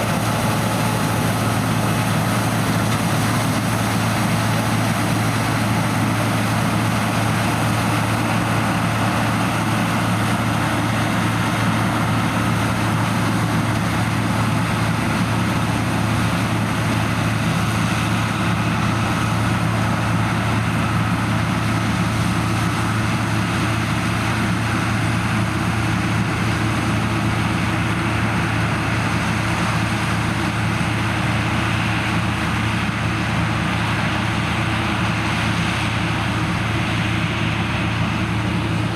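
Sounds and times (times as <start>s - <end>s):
diesel farm machinery droning: 0.0s - 38.9s.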